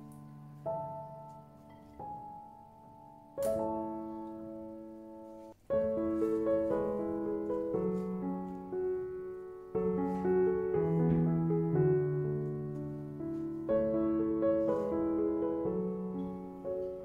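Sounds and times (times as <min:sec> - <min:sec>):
soft slow piano music: 0:00.0 - 0:17.0.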